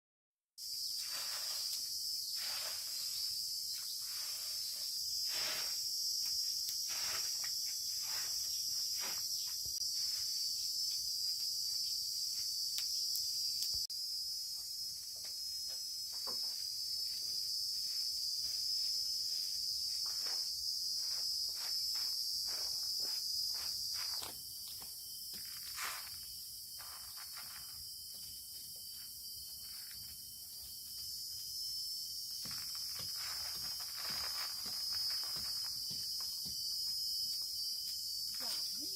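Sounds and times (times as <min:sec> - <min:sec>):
insects chirring: 0:00.6 - 0:38.9.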